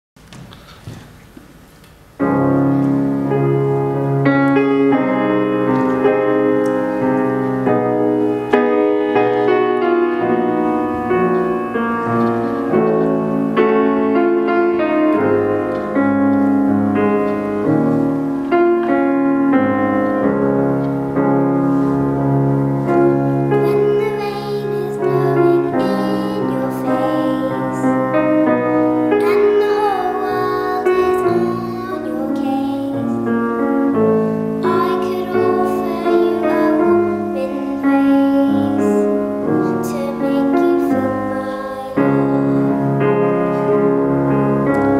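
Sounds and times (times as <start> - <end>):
piano music: 2.1 - 44.9.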